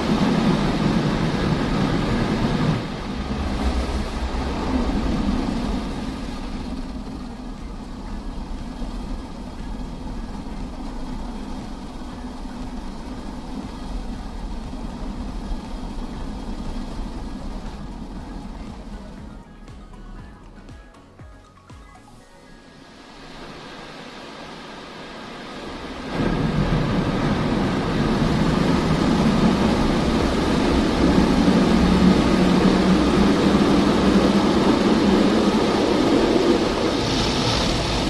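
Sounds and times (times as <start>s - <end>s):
rush of noise: 0.0s - 21.0s, 22.0s - 38.0s
car engine idling: 0.0s - 38.0s.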